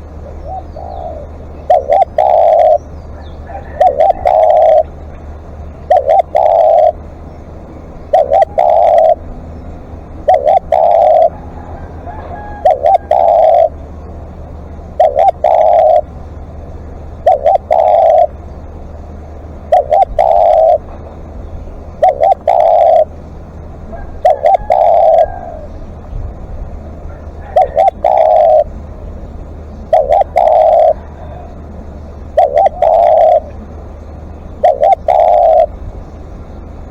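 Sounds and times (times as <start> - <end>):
dove cooing: 0.0 - 18.7, 19.3 - 36.2
steady low hum: 0.0 - 36.9.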